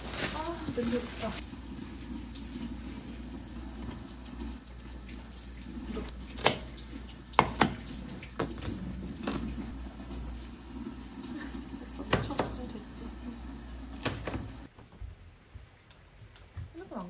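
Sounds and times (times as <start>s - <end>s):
water running: 0.0s - 14.7s.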